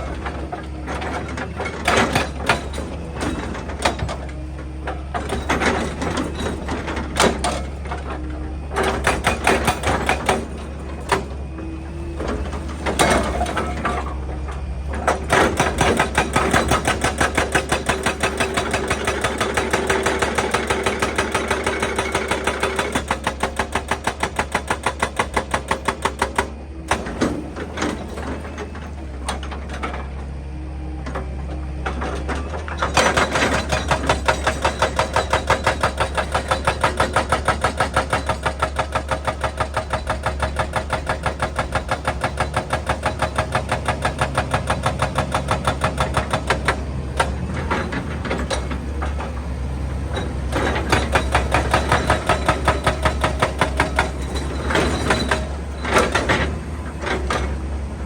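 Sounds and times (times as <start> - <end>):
hydraulic breaker hammering rock: 0.0 - 30.3, 31.1 - 57.8
diesel engine drone: 0.0 - 58.0.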